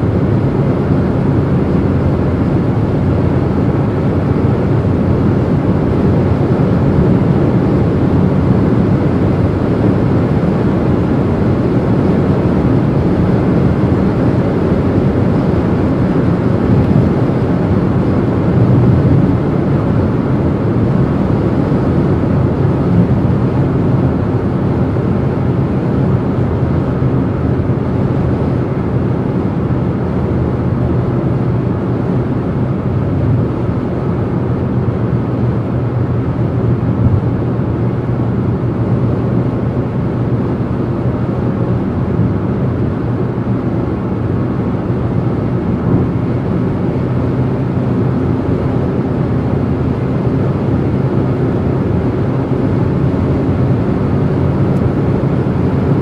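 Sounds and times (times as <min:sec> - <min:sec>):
low engine drone: 0:00.0 - 0:56.0
tyre and road noise: 0:00.0 - 0:56.0
wind noise: 0:00.0 - 0:56.0.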